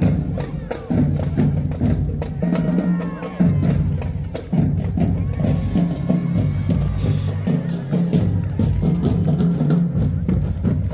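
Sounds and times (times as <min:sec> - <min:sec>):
drum and percussion hits: 0:00.0 - 0:10.9.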